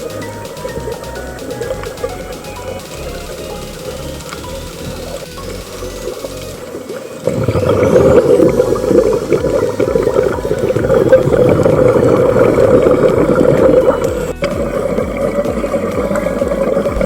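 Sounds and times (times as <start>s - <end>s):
underwater bubbles gurgling: 0.0s - 17.0s.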